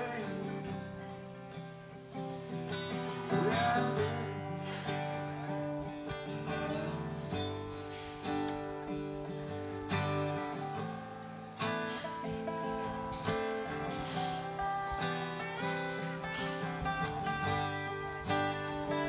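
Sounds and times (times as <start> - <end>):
acoustic guitar strumming: 0.0 - 19.0
slide resonator guitar: 0.0 - 19.0.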